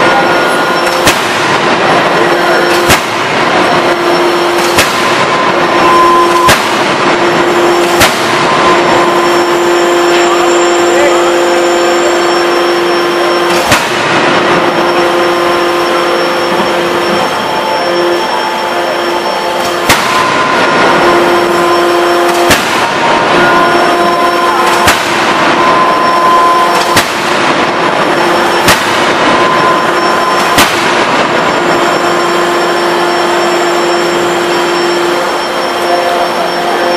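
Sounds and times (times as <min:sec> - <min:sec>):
forging hammer blows: 0:00.0 - 0:36.9
loud machinery hum: 0:00.0 - 0:36.9.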